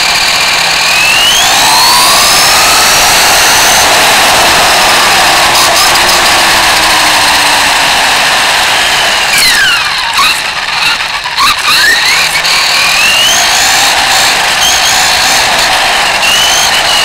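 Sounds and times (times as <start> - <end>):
rush of wheel noise: 0.0 - 11.3, 12.1 - 17.0
rc car motor whining: 0.0 - 17.0.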